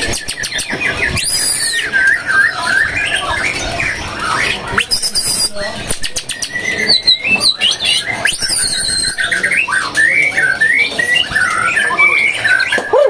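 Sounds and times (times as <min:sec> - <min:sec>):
songbird singing warbled phrases: 0:00.0 - 0:13.0.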